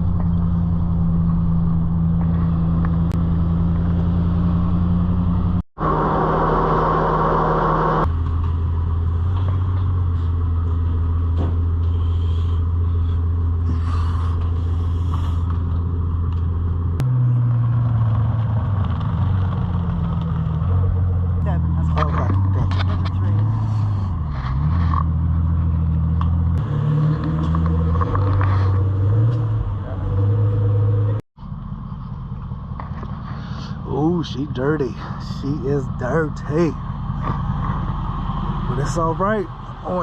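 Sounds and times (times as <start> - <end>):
truck engine and road drone: 0.0 - 40.0.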